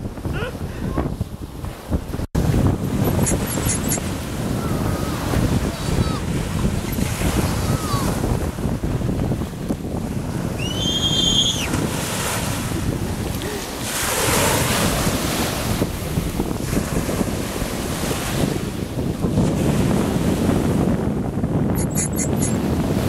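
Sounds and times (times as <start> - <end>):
waves breaking on beach: 0.0 - 23.0
wind on microphone: 0.0 - 23.0.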